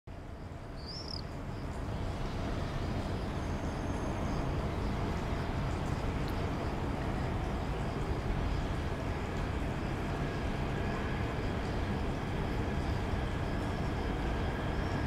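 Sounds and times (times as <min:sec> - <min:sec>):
freight train rumbling: 0:00.2 - 0:15.0.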